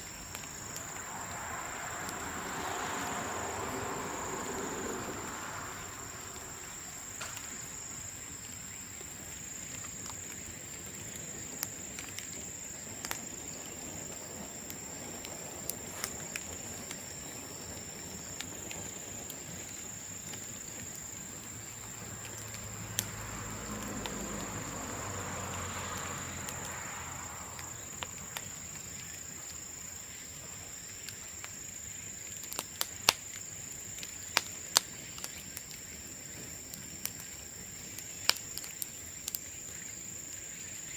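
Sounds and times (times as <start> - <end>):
bonfire crackling and popping: 0.0 - 40.9
insect trill: 0.0 - 40.9.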